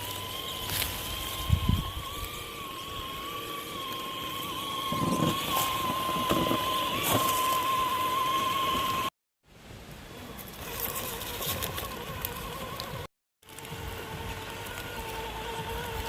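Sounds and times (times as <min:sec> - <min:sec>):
toy truck electric motor whining: 0:00.0 - 0:09.1, 0:10.2 - 0:16.0.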